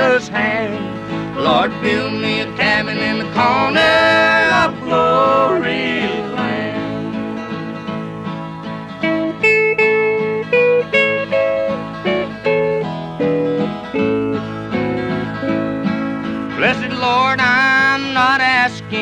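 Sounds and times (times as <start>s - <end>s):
picked guitar melody: 0.0s - 19.0s
strummed acoustic guitar: 0.0s - 19.0s.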